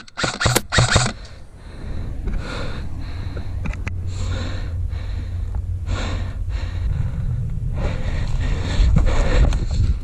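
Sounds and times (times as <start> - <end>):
person breathing hard: 1.1 - 10.0
steady low rumble: 1.1 - 10.0.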